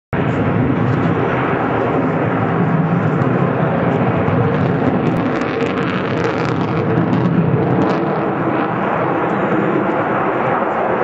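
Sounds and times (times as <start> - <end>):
fighter jet engine roar: 0.2 - 11.0.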